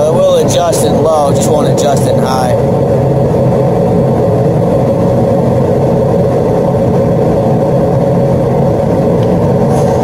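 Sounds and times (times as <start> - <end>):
heater burner and fan humming: 0.0 - 10.0.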